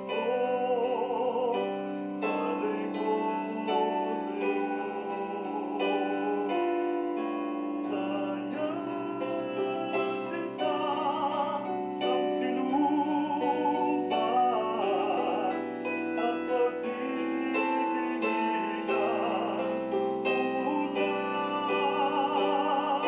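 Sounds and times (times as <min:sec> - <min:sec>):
electronic keyboard piano sound: 0:00.0 - 0:23.0
man singing with vibrato: 0:00.0 - 0:23.0.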